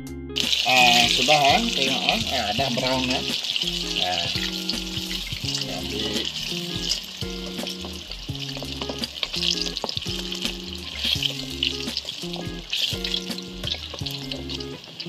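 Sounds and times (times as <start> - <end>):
chicken deep-frying in oil: 0.4 - 15.0.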